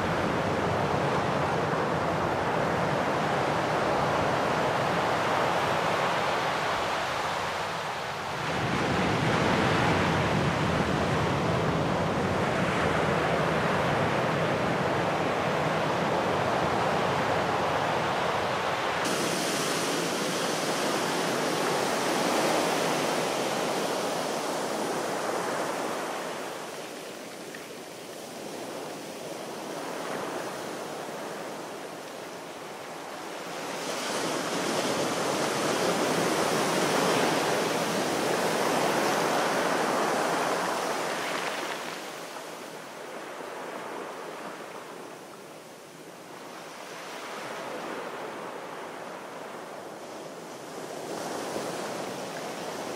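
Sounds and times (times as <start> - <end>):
sea waves washing on shore: 0.0 - 52.9.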